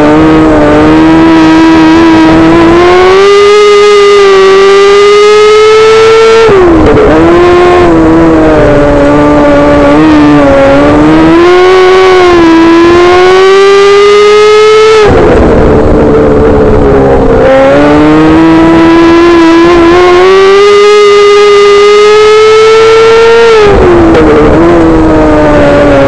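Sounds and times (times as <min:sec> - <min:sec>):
motorcycle engine revving loudly: 0:00.0 - 0:26.0.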